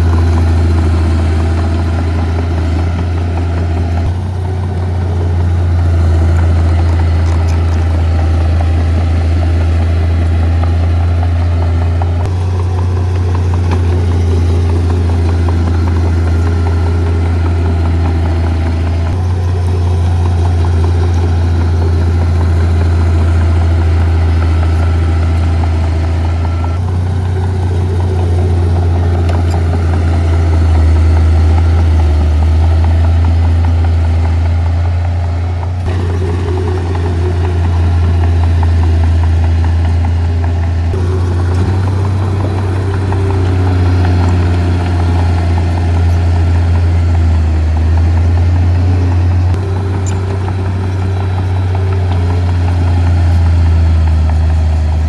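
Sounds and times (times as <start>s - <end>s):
heavy diesel engine running: 0.0s - 55.0s
rattle: 0.0s - 55.0s.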